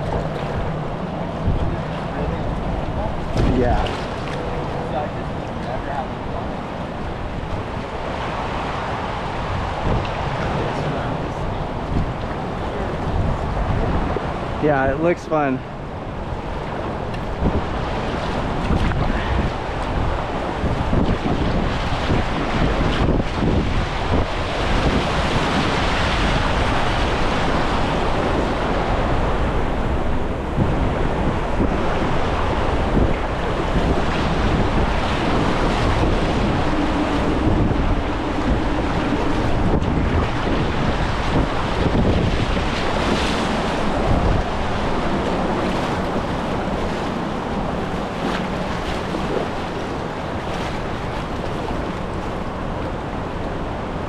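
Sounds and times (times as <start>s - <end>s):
whitewater river rushing: 0.0s - 54.0s
wind buffeting microphone: 0.0s - 54.0s.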